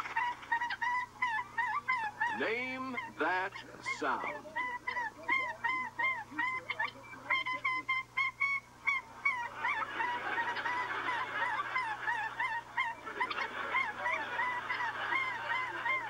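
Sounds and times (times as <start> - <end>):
rapid honking calls: 0.0 - 16.0.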